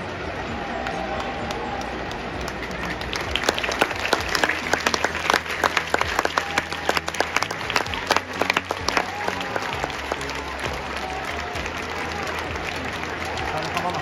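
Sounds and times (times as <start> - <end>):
crowd clapping: 0.0 - 14.0
loud sharp hand claps close by: 0.5 - 14.0.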